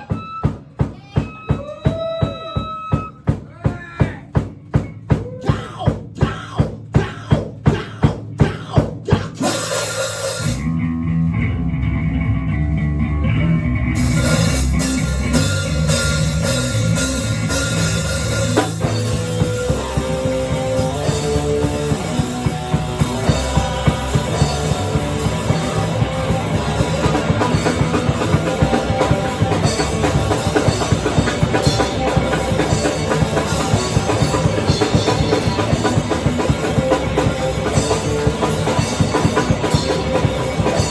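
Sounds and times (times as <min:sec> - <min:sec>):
drum hits: 0:00.0 - 0:10.6, 0:14.1 - 0:40.9
rock band playing: 0:00.0 - 0:40.9
bass and guitar: 0:02.8 - 0:40.9.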